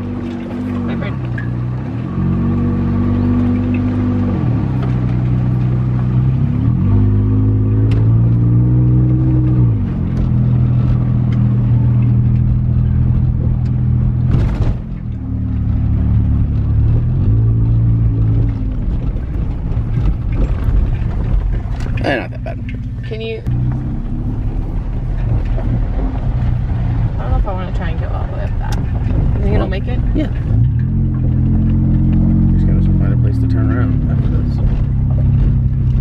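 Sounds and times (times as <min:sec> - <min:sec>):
car engine accelerating: 0:00.0 - 0:36.0
tyres on gravel road: 0:00.0 - 0:36.0.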